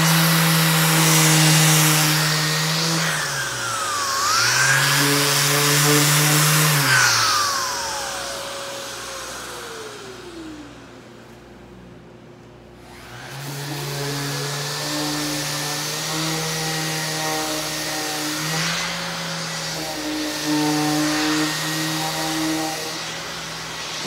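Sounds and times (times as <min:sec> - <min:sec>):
orbital sander running: 0:00.0 - 0:11.7, 0:12.7 - 0:24.0
dust extractor running: 0:00.0 - 0:12.1, 0:12.7 - 0:24.0.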